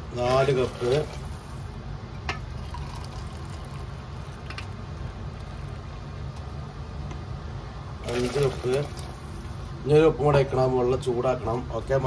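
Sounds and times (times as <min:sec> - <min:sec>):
pot of water heating on stove: 0:00.0 - 0:09.9.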